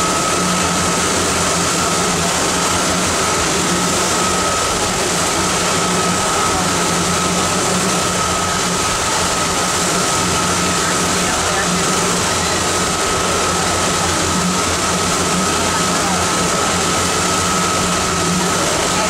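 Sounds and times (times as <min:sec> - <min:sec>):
boat engine drone: 0:00.0 - 0:19.0
rushing water from wake: 0:00.0 - 0:19.0.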